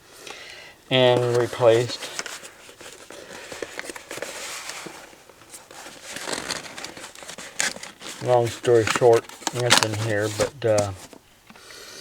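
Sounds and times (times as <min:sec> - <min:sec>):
rustling and handling noise: 0:00.1 - 0:11.7.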